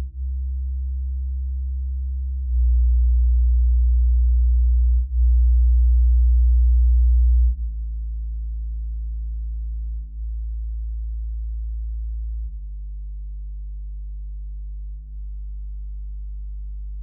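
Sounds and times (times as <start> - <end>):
low bass test tones: 0.0 - 17.0.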